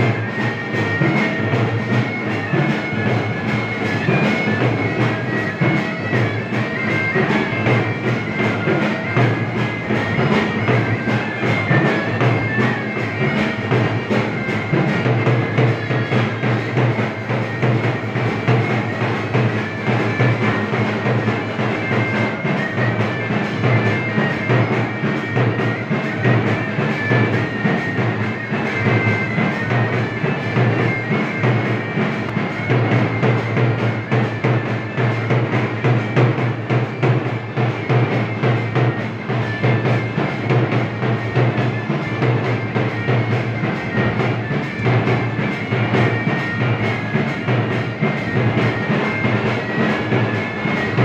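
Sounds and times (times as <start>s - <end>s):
high wind instrument melody: 0.0s - 51.0s
large drum beaten steadily: 0.0s - 51.0s.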